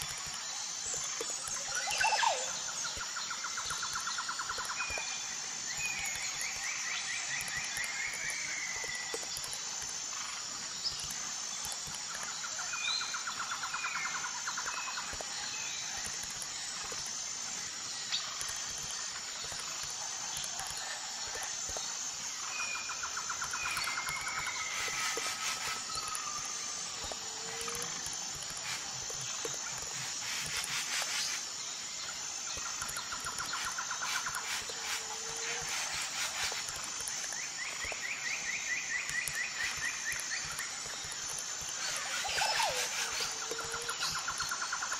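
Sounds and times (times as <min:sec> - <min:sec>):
pulsing high-pitched drone: 0:00.0 - 0:44.9.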